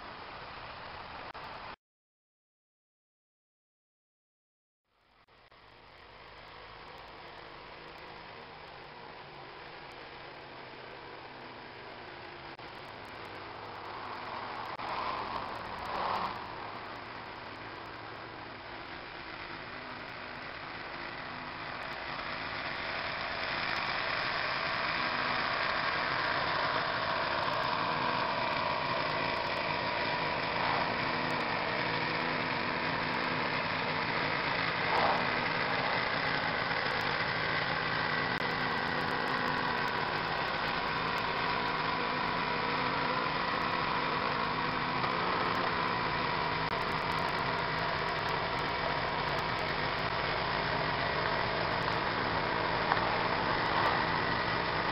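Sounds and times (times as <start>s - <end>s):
snow blower engine running: 5.1s - 54.9s.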